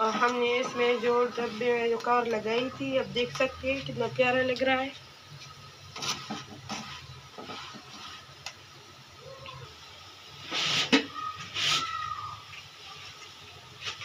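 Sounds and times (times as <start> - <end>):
flatbread sizzling on a griddle: 0.0 - 14.0.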